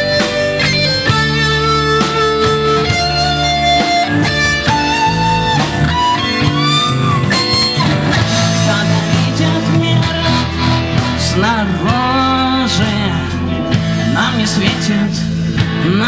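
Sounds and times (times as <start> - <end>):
electric guitar solo: 0.0 - 14.7
bass and backing band: 0.0 - 16.0.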